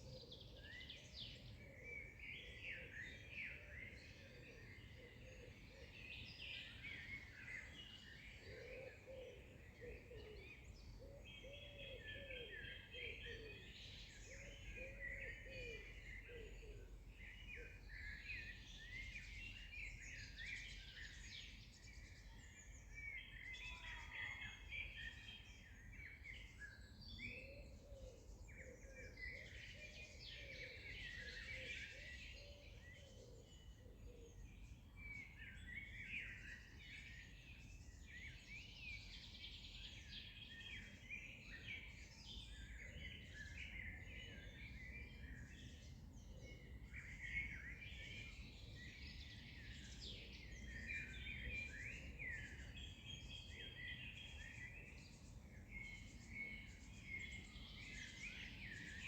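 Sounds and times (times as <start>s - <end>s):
birds chirping and trilling: 1.4s - 59.0s.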